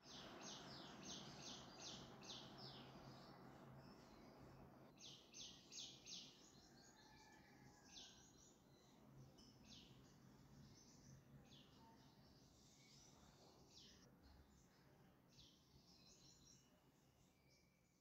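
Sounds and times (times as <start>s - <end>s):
faint bird chirps: 0.1s - 18.0s.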